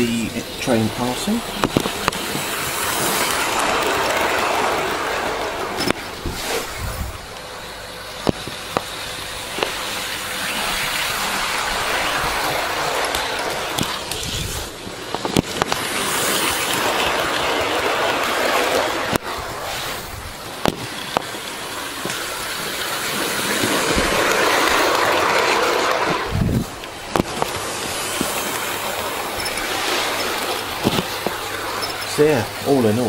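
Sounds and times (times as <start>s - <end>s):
model train rolling on track: 0.0s - 33.0s.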